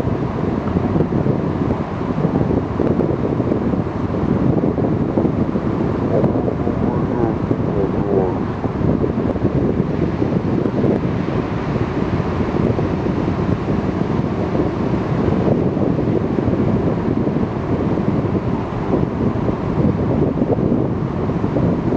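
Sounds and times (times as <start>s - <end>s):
water rushing around hull: 0.0s - 21.9s
wind buffeting microphone: 0.0s - 21.9s.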